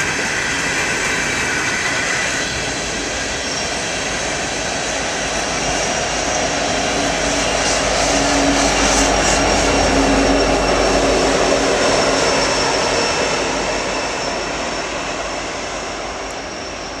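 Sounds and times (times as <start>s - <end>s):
diesel locomotive passing: 0.0s - 17.0s.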